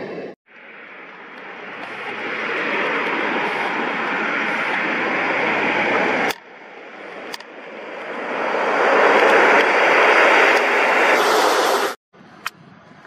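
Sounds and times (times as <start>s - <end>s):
turboprop aircraft engines running: 0.0s - 13.0s.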